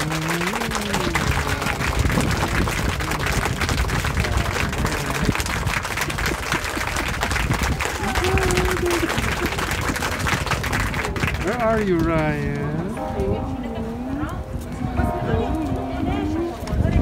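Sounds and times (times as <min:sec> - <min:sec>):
faint voices of passers-by: 0:00.0 - 0:17.0
street noise rumble: 0:00.0 - 0:17.0.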